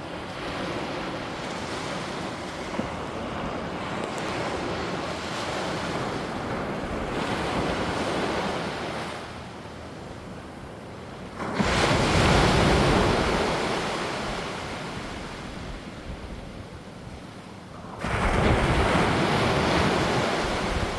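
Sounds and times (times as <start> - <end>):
wind on microphone: 0.0 - 9.4, 11.4 - 20.9
waves breaking on shore: 0.0 - 20.9.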